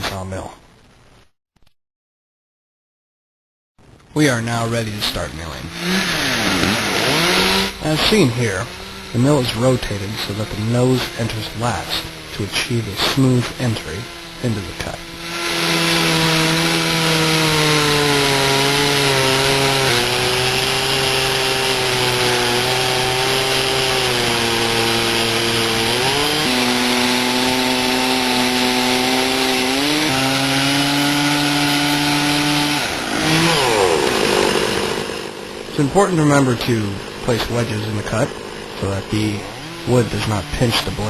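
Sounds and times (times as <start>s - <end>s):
chainsaw cutting through log: 5.1s - 41.0s.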